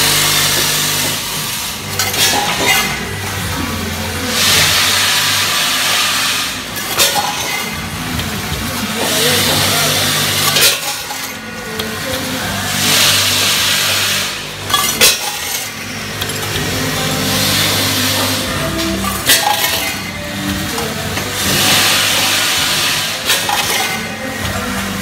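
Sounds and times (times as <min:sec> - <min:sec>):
machine low hum: 0:00.0 - 0:25.0.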